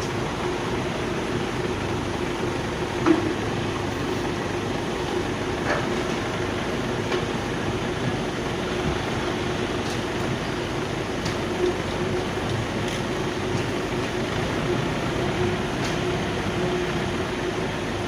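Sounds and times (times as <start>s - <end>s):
woodworking machinery running: 0.0s - 18.0s.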